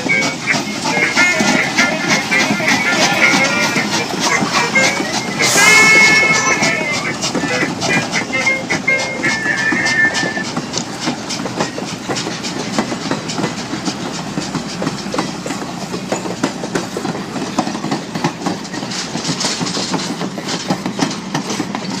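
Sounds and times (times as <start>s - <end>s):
train wheels clattering over rail joints: 0.0s - 22.0s.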